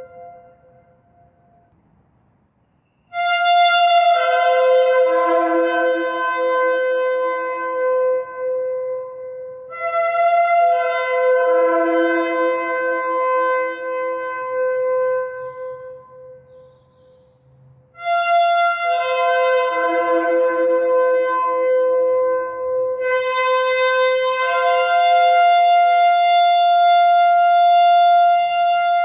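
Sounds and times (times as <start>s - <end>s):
shofar blasts: 0.0s - 1.7s, 3.1s - 16.8s, 18.0s - 29.0s.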